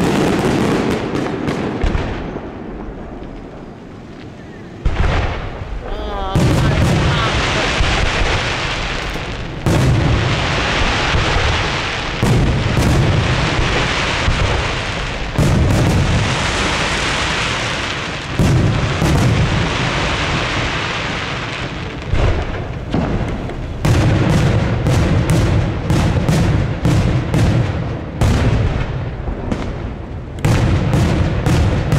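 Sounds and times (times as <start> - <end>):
fireworks booming: 0.0 - 31.9
rumble after booms: 0.0 - 31.9
sharp firework cracks: 0.0 - 31.9.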